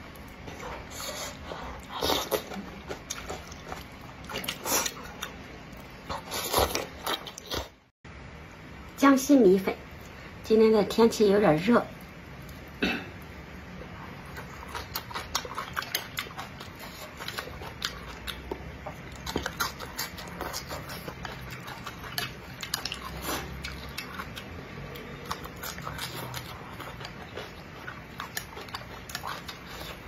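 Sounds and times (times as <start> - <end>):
person chewing noodles: 0.0 - 7.7, 12.0 - 30.0.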